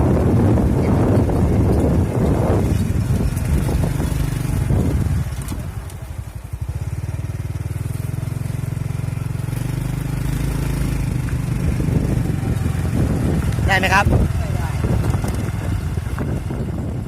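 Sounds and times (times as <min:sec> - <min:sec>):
small engine running: 0:00.0 - 0:17.0
wind buffeting microphone: 0:00.0 - 0:17.0.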